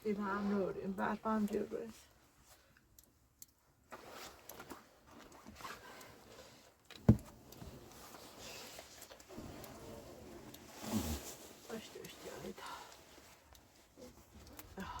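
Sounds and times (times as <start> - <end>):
faint rustling and handling: 0.0 - 15.0.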